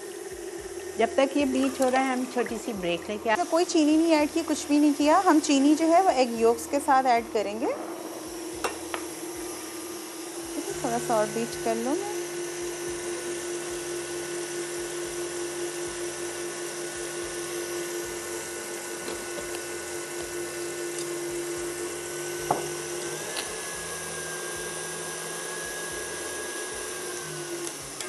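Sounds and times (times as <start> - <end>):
stand mixer motor whine: 0.0 - 28.0.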